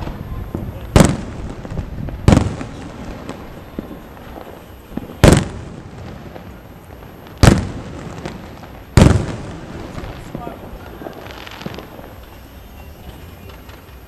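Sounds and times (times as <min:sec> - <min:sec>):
faint firework crackling: 0:00.0 - 0:14.0
firework bangs with echo: 0:00.0 - 0:14.0.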